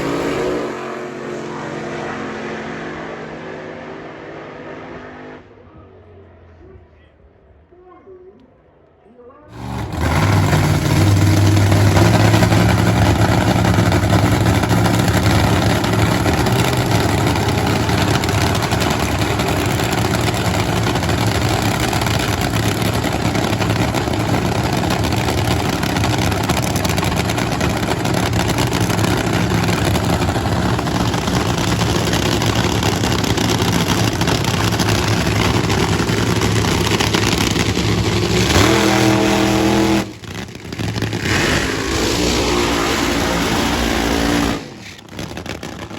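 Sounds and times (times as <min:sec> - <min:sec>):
loud race car engine: 0:00.0 - 0:06.3, 0:09.5 - 0:45.9.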